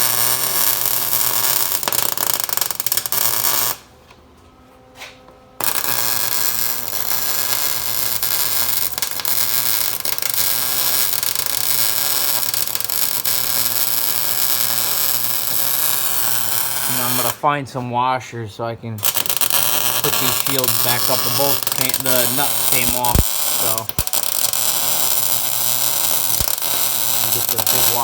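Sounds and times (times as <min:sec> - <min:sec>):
arc welding crackling sizzle: 0:00.0 - 0:04.0, 0:05.6 - 0:17.4, 0:19.0 - 0:28.0.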